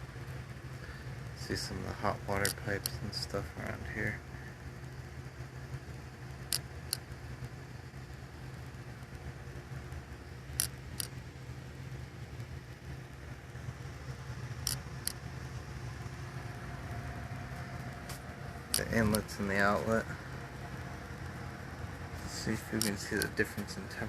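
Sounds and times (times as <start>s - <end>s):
heat pump humming: 0.0s - 24.0s.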